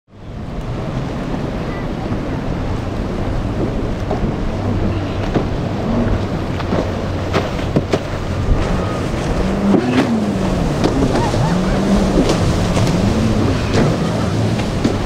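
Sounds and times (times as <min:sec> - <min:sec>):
wind buffeting microphone: 0:00.1 - 0:15.0
outboard motors running: 0:00.2 - 0:15.0
water spray splashing: 0:00.6 - 0:15.0.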